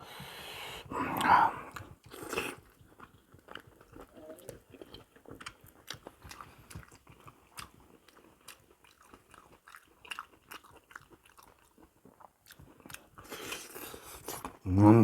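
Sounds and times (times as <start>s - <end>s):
person chewing and biting: 1.1s - 14.6s.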